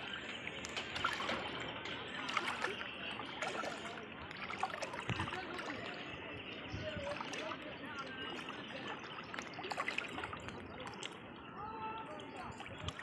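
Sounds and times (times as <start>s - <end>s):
floodwater flowing and splashing: 0.0s - 13.0s
voices: 0.0s - 13.0s.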